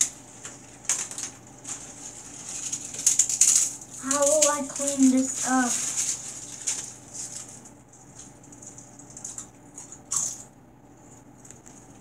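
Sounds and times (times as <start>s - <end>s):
potato chips rustling and crackling: 0.0s - 10.4s.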